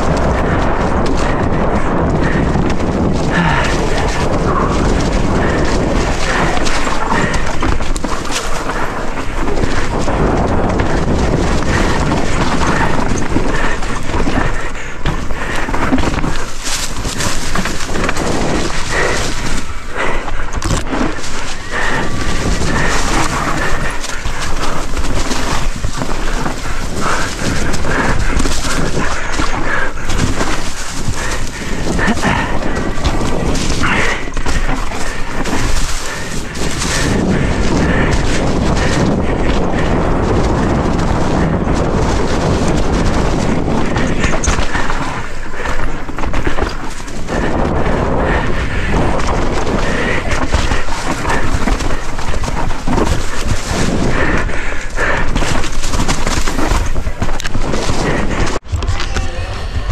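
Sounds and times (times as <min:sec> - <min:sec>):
bike clattering over rocks: 0:00.0 - 0:58.8
tyre and wind rush: 0:00.0 - 0:59.9.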